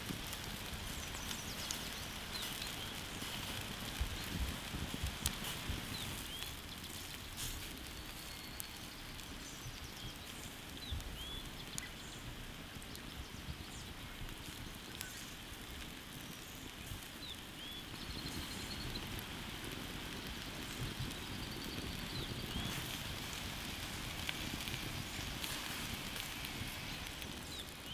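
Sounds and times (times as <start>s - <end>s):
fire hissing and crackling: 0.0s - 27.9s.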